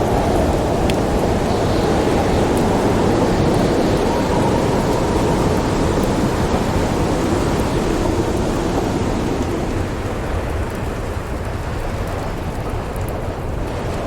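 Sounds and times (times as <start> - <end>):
wind rushing: 0.0 - 11.5
thunder rumbling: 0.0 - 14.0
wood fire crackling: 0.0 - 14.0.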